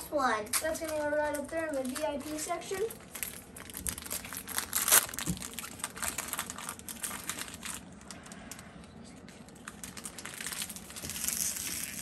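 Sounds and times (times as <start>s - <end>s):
foil wrapper crinkling: 0.5s - 12.0s.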